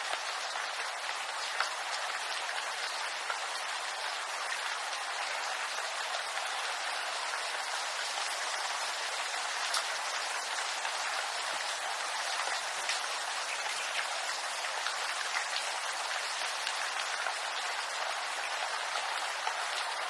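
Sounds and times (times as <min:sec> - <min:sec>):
rain hissing on bamboo: 0:00.0 - 0:20.0
raindrops ticking on leaves: 0:00.0 - 0:20.0.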